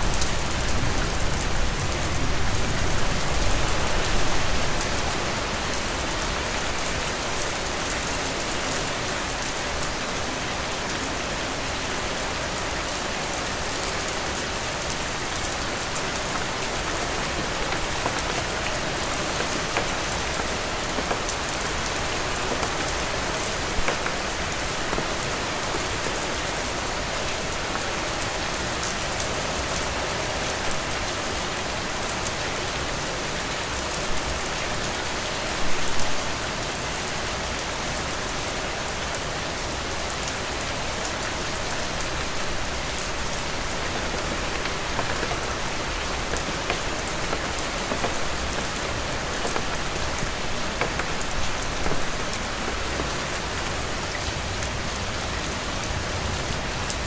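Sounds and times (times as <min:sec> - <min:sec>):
heavy rain falling: 0:00.0 - 0:57.0
loud rain spatters: 0:00.0 - 0:57.0.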